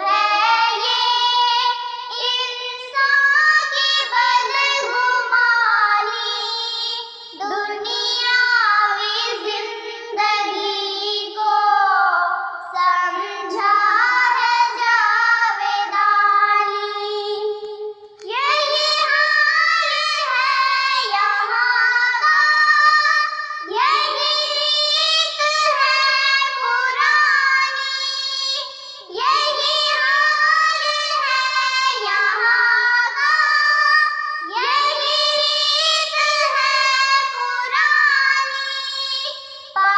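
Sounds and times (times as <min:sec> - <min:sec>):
girls singing unaccompanied: 0:00.0 - 0:39.9.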